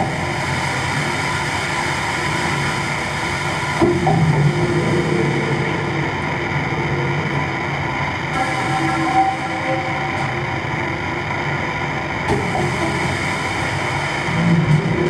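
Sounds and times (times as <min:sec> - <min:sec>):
droning held tones: 0:00.0 - 0:15.0
electronic noise music: 0:00.0 - 0:15.0.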